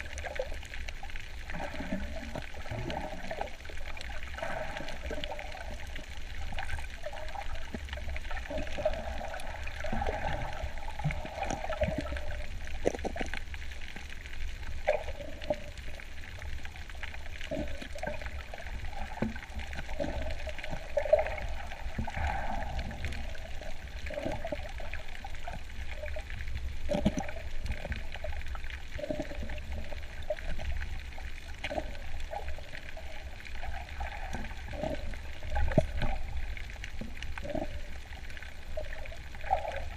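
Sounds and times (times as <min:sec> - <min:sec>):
low underwater rumble: 0:00.0 - 0:39.9
underwater sloshing and gurgling: 0:00.0 - 0:39.9.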